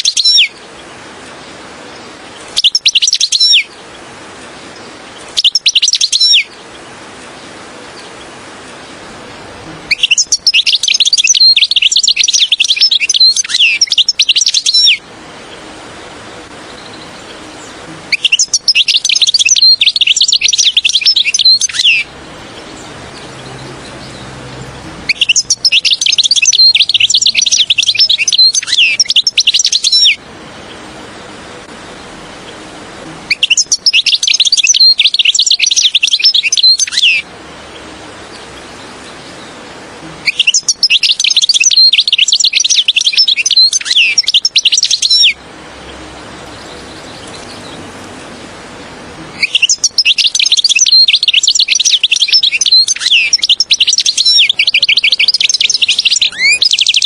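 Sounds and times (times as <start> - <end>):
goldfinch twittering song: 0.0 - 4.0, 4.6 - 9.0, 9.9 - 15.7, 16.6 - 30.8, 33.3 - 48.1, 49.3 - 57.0
faint hiss: 0.0 - 57.0.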